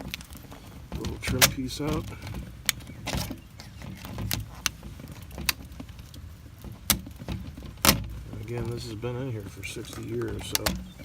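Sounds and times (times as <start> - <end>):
metallic clicks and knocks: 0.9 - 11.0.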